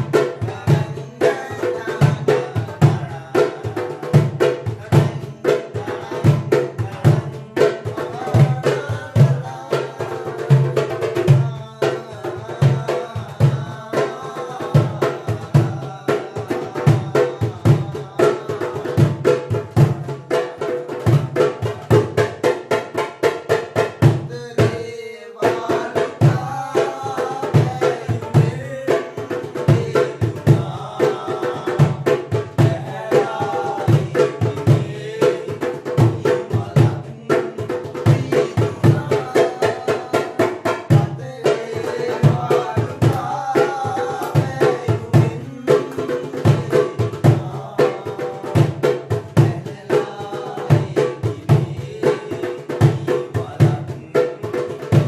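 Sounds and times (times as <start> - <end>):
goblet hand drum rhythm: 0.0 - 55.0.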